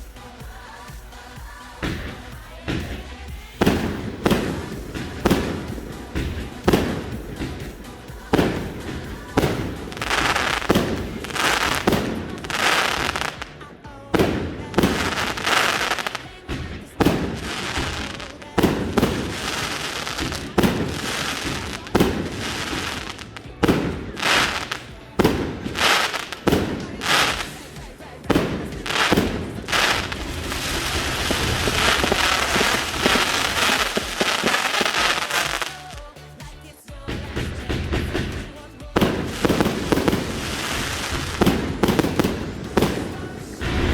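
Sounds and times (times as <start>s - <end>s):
firework booms: 0.0s - 36.1s, 37.0s - 43.9s
firework crackling hiss: 0.0s - 36.5s, 37.1s - 43.9s.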